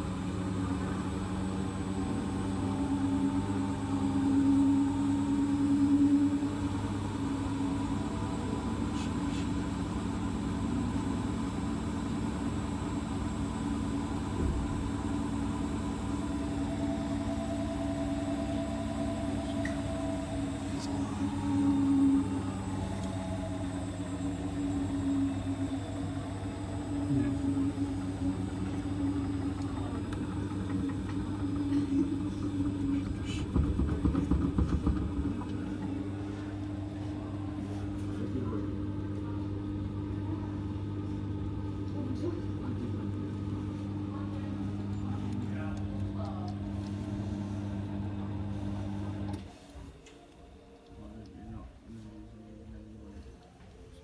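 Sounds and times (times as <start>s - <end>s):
washing machine running: 0.0s - 51.2s.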